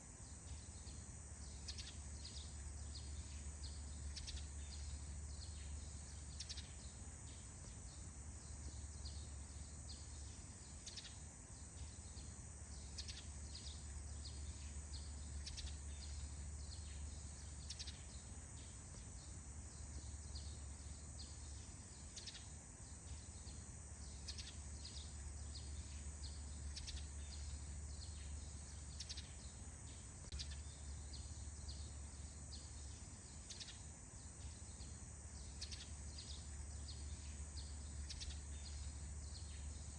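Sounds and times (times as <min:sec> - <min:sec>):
high insect buzz: 0:00.1 - 0:39.9.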